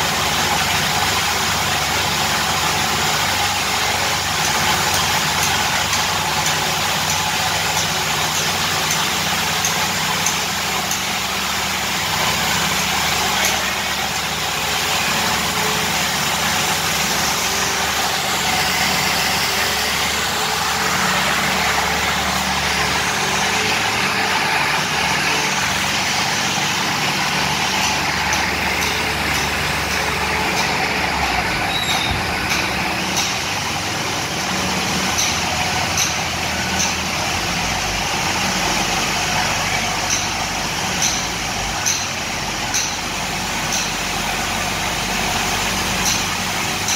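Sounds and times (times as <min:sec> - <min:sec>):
broad machine noise: 0:00.0 - 0:46.9
diesel machinery engine drone: 0:00.0 - 0:46.9.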